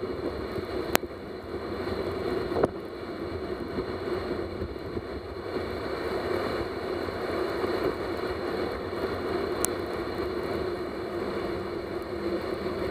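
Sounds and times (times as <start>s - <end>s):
sled sliding over snow: 0.0s - 12.9s.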